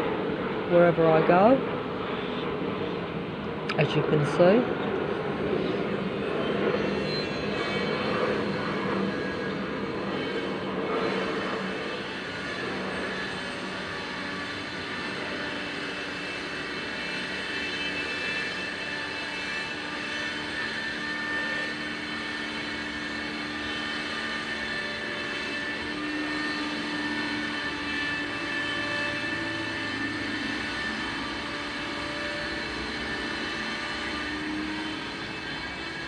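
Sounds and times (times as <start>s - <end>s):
aeroplane droning overhead: 0.0s - 36.0s.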